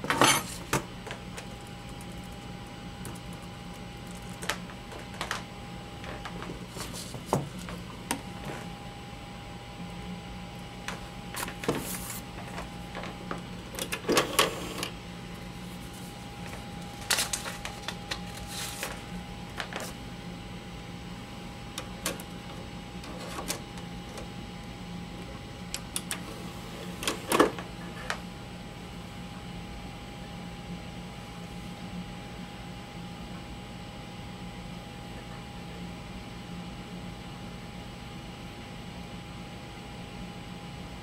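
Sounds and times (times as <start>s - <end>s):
computer fan humming: 0.0s - 41.0s.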